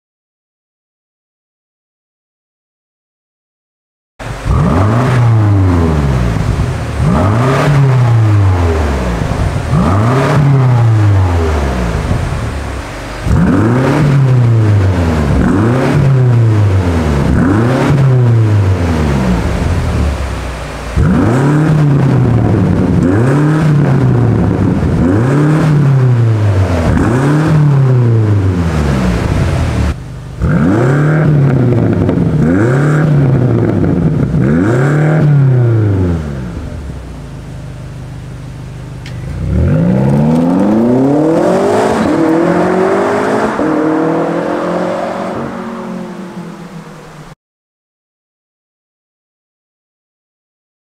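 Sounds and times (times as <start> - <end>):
car engine free-revving: 4.2 - 47.4.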